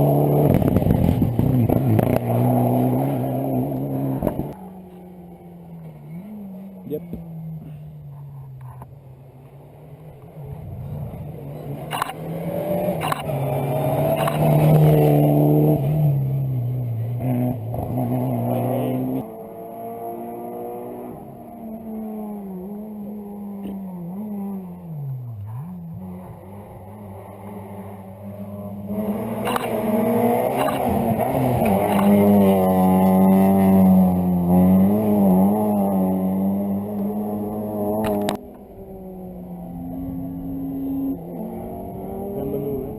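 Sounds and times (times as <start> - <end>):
rally car engine revving: 0.0 - 8.9, 9.5 - 42.9.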